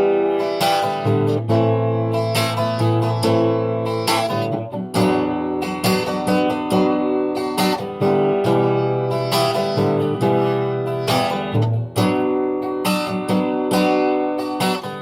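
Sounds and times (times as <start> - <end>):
strummed guitars: 0.0 - 15.0.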